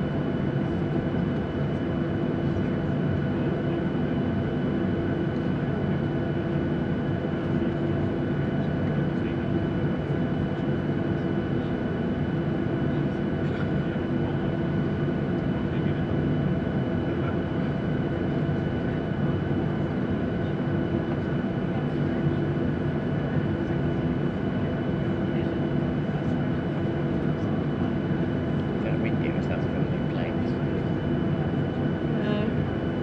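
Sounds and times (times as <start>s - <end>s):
jet engines rumbling in cabin: 0.0s - 33.0s.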